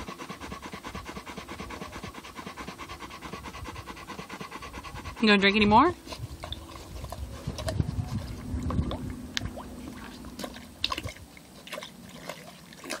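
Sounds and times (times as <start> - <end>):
dog lapping water: 0.0 - 13.0.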